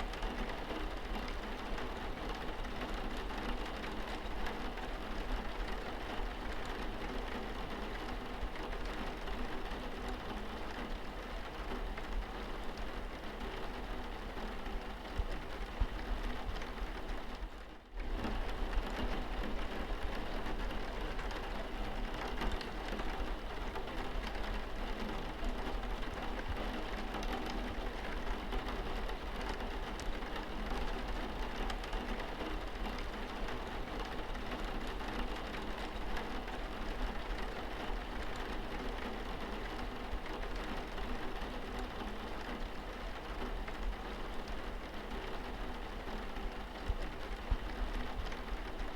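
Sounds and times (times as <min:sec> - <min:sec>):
raindrops hitting a window: 0:00.0 - 0:48.9
steady rain: 0:00.0 - 0:48.9.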